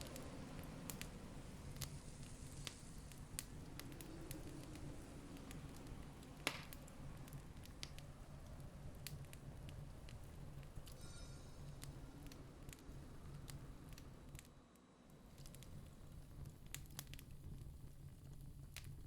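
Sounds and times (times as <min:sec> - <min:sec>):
campfire crackling and popping: 0:00.0 - 0:11.0, 0:11.7 - 0:14.5, 0:15.1 - 0:19.0.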